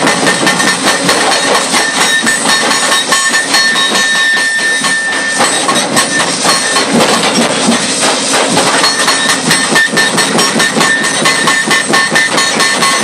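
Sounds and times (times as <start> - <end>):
metallic ring: 0.0 - 7.5, 8.7 - 13.0
hydraulic breaker pounding concrete: 0.0 - 13.0.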